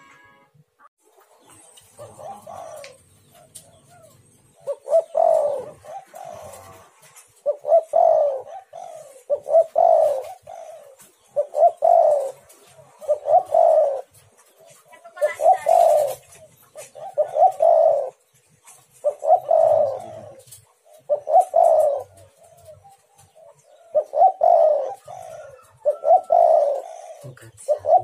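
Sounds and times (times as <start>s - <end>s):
dove cooing: 1.2s - 28.0s.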